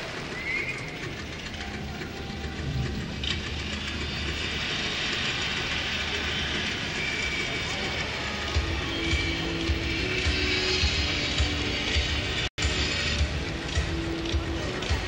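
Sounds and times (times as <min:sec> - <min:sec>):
stadium crowd noise: 0:00.0 - 0:15.0.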